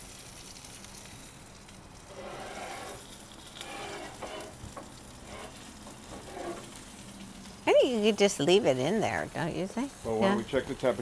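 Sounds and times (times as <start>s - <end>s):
steak sizzling in a skillet: 0.0s - 11.0s.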